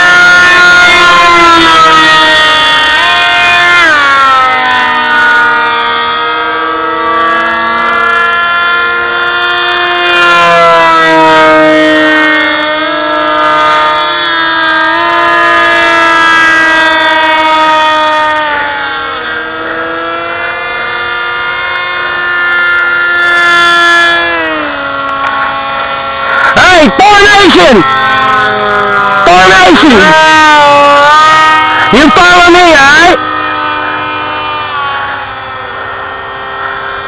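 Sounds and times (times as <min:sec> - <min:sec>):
model plane motors whining: 0:00.0 - 0:37.0.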